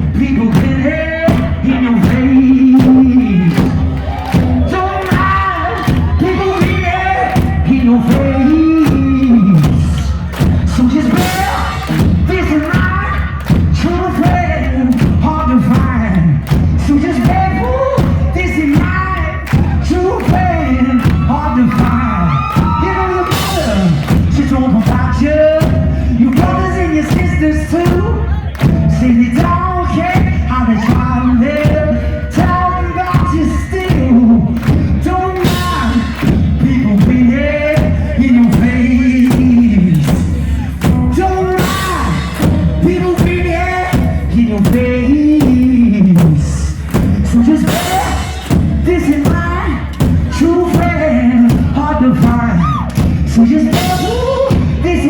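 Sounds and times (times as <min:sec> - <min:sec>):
drum kit playing: 0:00.0 - 0:55.0
person singing: 0:00.0 - 0:55.0.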